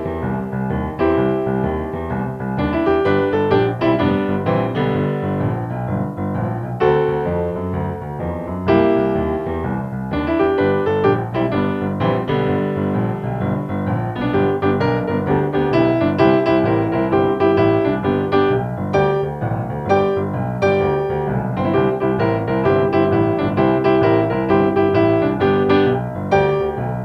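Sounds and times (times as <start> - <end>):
piano chords: 0.0 - 27.0.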